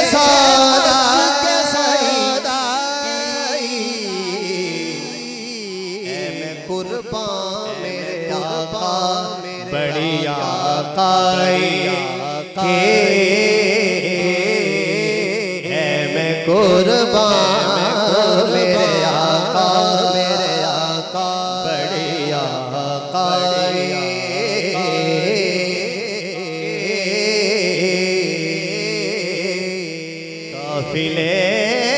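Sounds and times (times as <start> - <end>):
man singing into microphone: 0.0 - 31.9.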